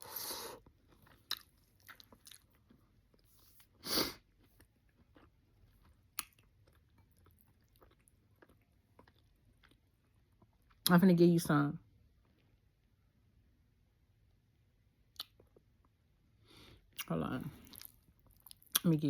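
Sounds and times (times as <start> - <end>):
soft chewing: 0.0 - 10.9, 11.8 - 13.0, 15.1 - 16.1, 16.8 - 19.0.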